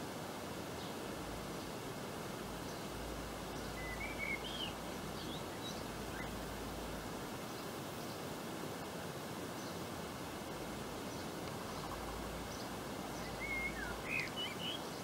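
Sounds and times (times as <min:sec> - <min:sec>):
outdoor background hiss: 0:00.0 - 0:15.0
small birds chirping: 0:00.7 - 0:15.0.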